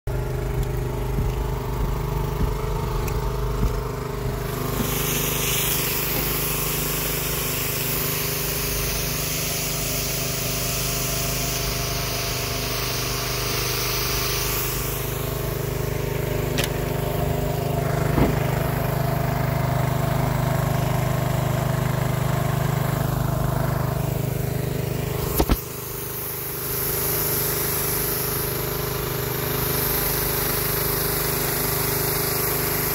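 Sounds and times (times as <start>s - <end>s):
water pump engine humming: 0.0s - 32.9s
spraying water hiss: 0.1s - 21.0s, 22.4s - 32.9s.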